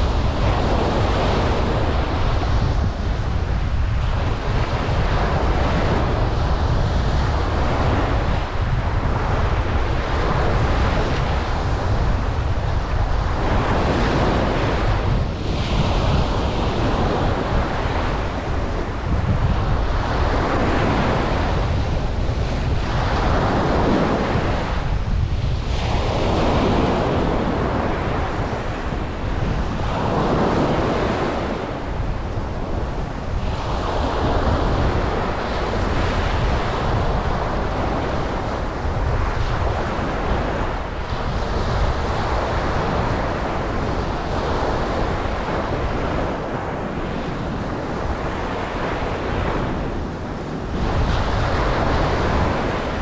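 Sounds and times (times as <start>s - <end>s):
ocean waves breaking: 0.0s - 53.0s
wind rumble on microphone: 0.0s - 53.0s.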